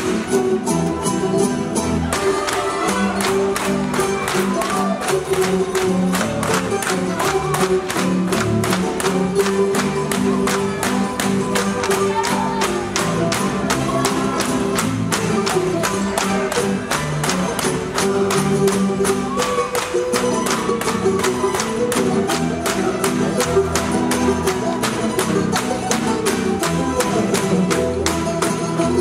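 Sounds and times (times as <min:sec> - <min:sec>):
folk dance music: 0:00.0 - 0:29.0.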